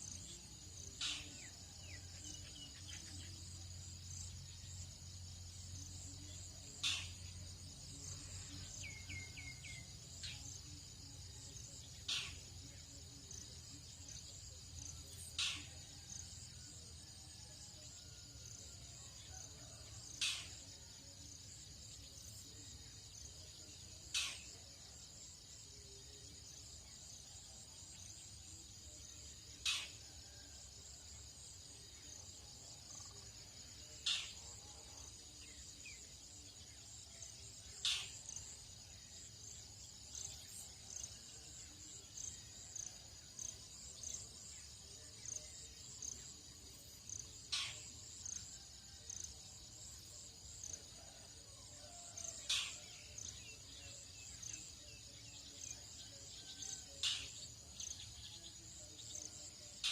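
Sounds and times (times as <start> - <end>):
crickets and insects buzzing: 0.0 - 59.9.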